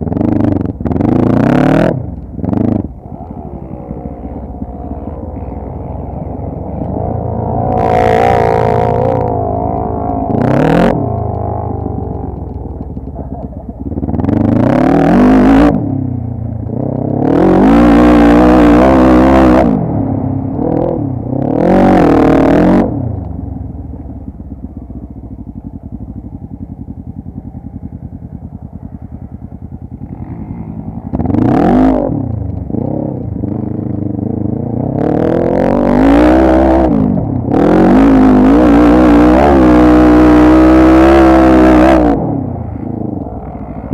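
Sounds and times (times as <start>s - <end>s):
quad bike engine revving and idling: 0.0s - 43.9s.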